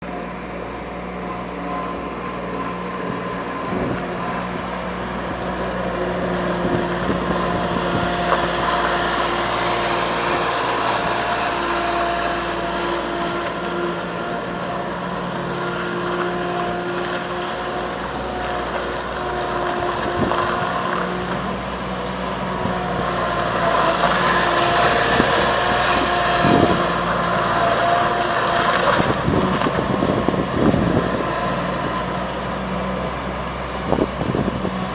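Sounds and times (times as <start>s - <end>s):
skid steer engine running: 0.0s - 34.9s.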